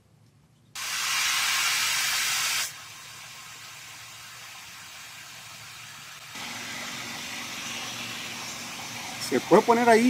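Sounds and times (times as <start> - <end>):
loud even hiss: 0.8 - 10.0.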